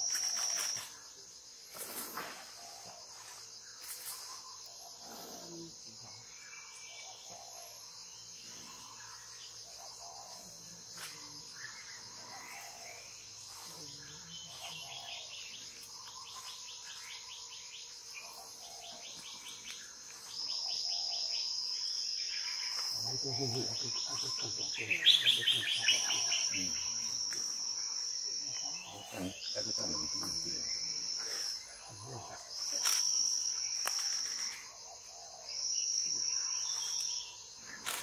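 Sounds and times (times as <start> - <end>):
high-pitched insect drone: 0.0 - 38.0.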